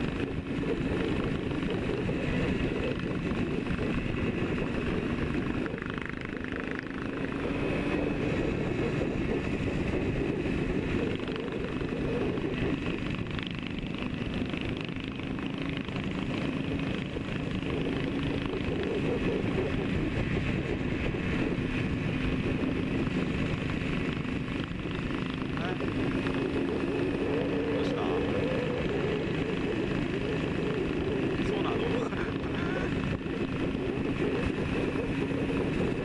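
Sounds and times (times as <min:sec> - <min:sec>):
two-stroke motorcycle engine cruising: 0:00.0 - 0:36.0
wind rush: 0:00.0 - 0:36.0.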